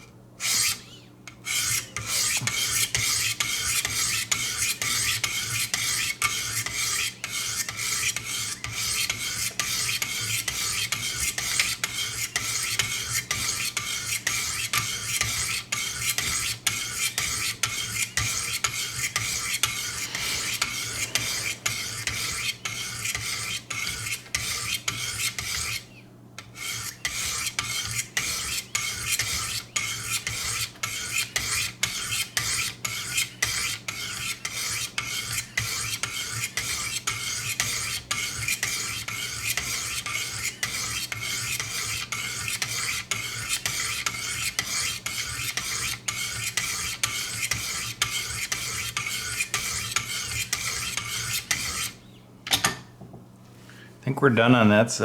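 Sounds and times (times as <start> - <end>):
sharpening stone rasping on knife: 6.4 - 25.8, 26.6 - 52.0.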